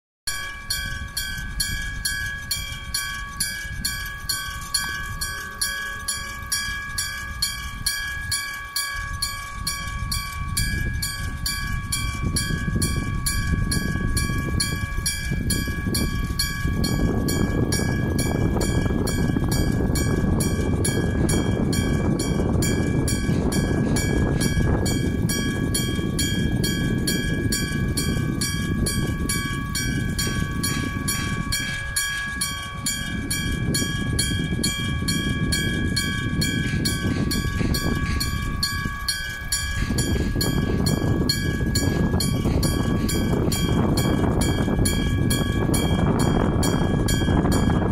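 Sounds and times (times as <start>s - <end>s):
freight train rumble: 0.3s - 47.9s
level-crossing warning bell: 0.3s - 47.9s.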